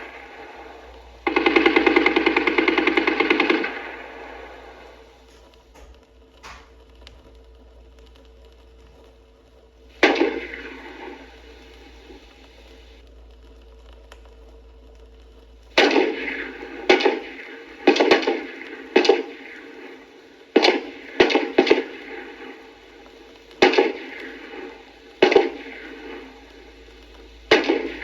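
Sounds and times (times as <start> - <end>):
faint hiss: 0.0 - 28.0.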